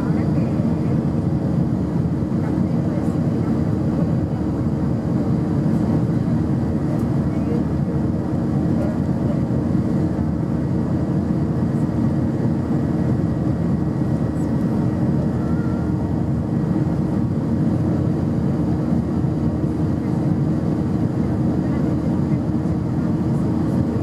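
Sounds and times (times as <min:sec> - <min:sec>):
jet engines and airflow rumble: 0:00.0 - 0:24.0.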